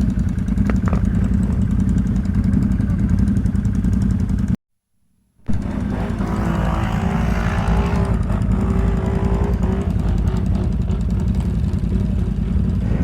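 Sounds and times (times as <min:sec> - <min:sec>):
atv engine running: 0:00.0 - 0:04.6, 0:05.5 - 0:13.0.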